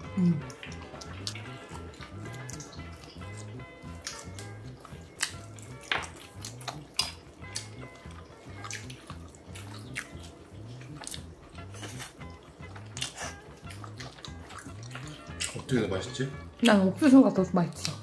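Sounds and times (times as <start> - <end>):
close chewing with mouth clicks: 0.0 - 16.8, 17.7 - 18.0
soft background music: 0.0 - 18.0.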